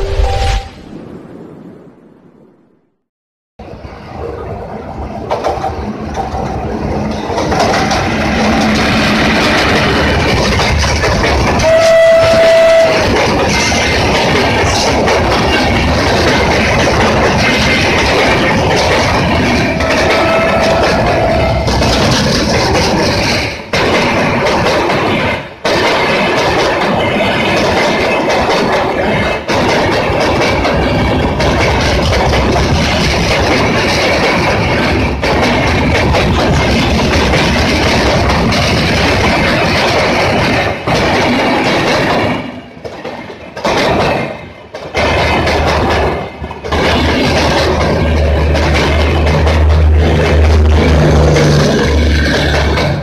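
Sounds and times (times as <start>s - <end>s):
train wheels rumbling on rail: 3.6s - 53.0s
wheels clattering over track: 5.2s - 53.0s.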